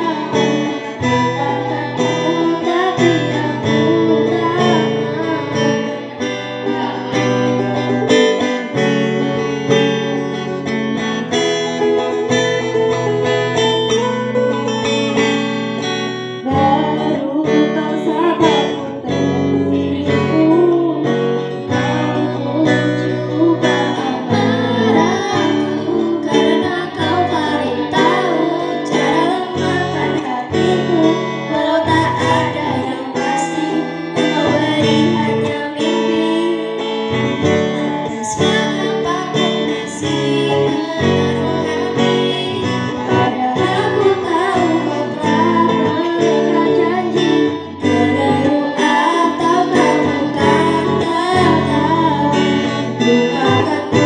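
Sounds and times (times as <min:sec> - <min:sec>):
person singing: 0:00.0 - 0:54.0
strummed acoustic guitar: 0:00.0 - 0:54.0.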